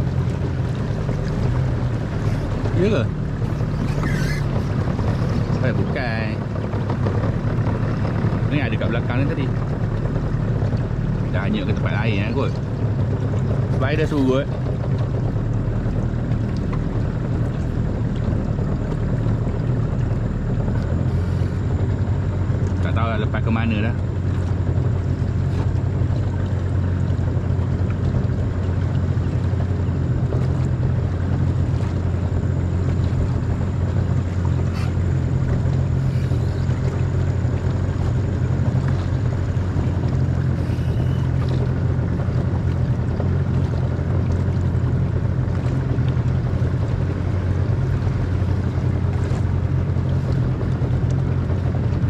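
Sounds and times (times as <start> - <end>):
boat motor droning: 0.0 - 52.0.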